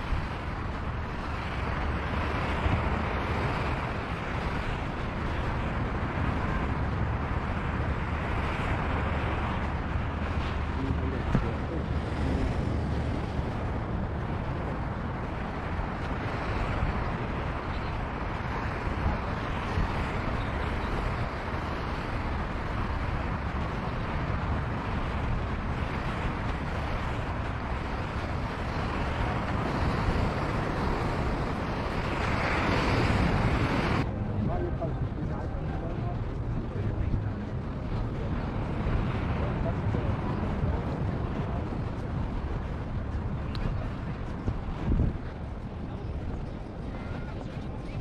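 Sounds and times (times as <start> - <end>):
ocean surf: 0.0 - 48.0
wind across microphone: 0.0 - 48.0.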